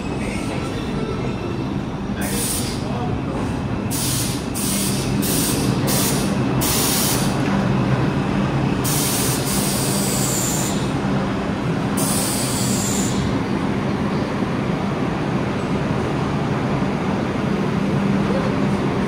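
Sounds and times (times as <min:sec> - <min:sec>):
subway train rail noise: 0:00.0 - 0:19.0.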